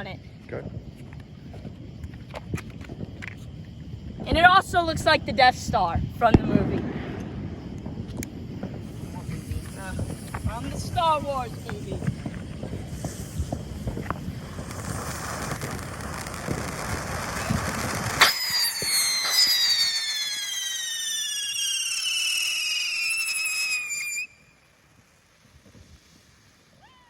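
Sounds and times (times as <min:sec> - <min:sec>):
firework whistling downward: 0:01.0 - 0:27.0
firework hissing spray: 0:04.8 - 0:27.0.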